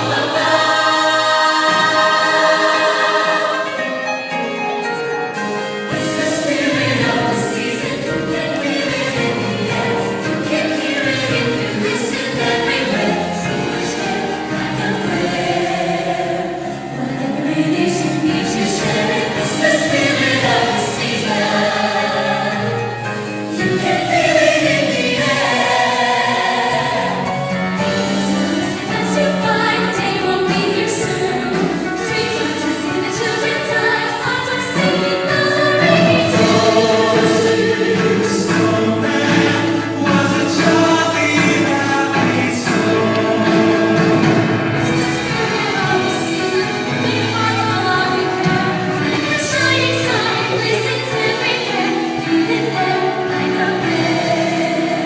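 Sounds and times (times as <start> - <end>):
choir singing: 0.0 - 55.0
music: 0.0 - 55.0.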